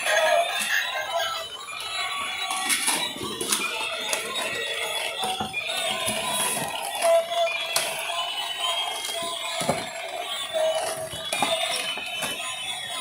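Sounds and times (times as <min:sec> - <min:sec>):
toys playing tinny electronic tunes: 0:00.0 - 0:13.0.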